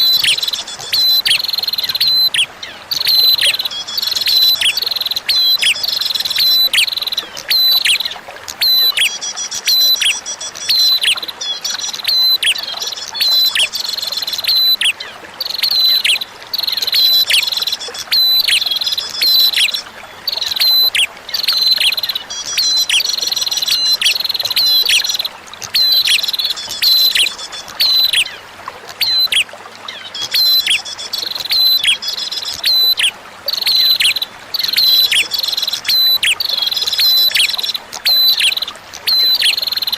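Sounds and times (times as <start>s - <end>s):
bird chirping song: 0.0s - 28.4s, 29.0s - 39.9s
running water: 0.0s - 39.9s.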